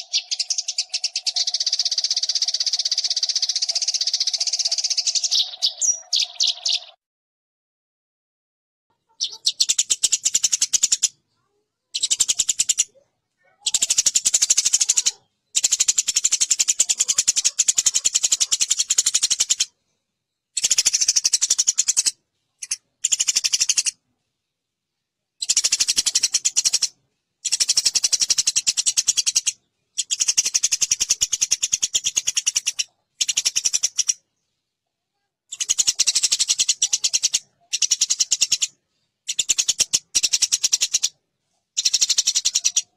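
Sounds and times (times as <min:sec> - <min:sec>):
sparrows chattering: 0:00.0 - 0:07.0, 0:08.9 - 0:34.8, 0:35.5 - 0:42.9.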